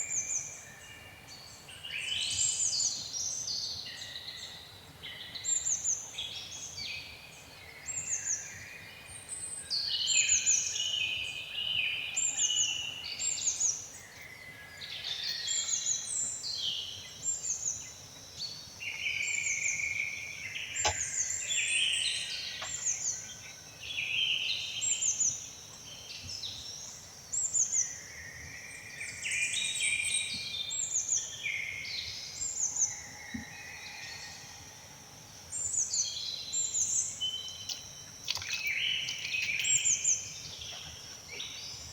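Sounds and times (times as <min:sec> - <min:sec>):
small birds chirping and singing: 0:00.0 - 0:41.9.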